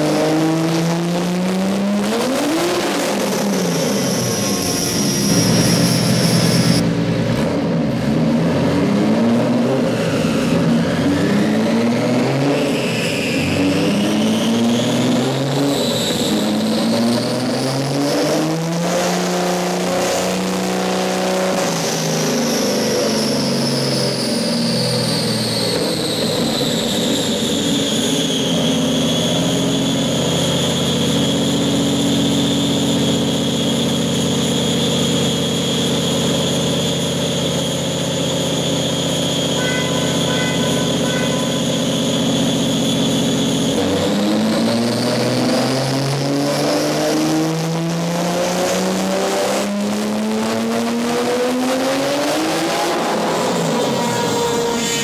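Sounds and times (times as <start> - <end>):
car engine revving on a dyno: 0.0 - 55.0
high turbo whine: 0.0 - 55.0.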